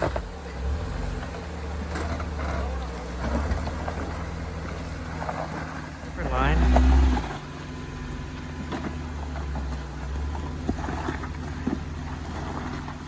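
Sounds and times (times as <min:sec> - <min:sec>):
car engine running low: 0:00.0 - 0:13.0.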